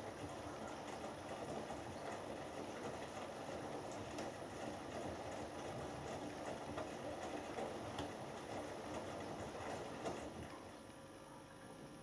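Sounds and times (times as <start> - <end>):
laundry tumbling with clicks: 0.0 - 10.5
washing machine drum turning: 0.0 - 10.5
quiet machine hum: 0.0 - 12.0.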